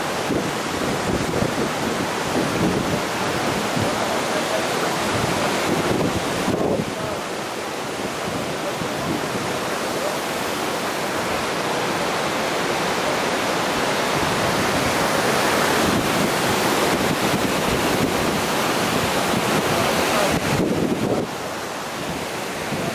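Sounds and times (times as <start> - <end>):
waterfall roaring into rock pool: 0.0 - 22.9.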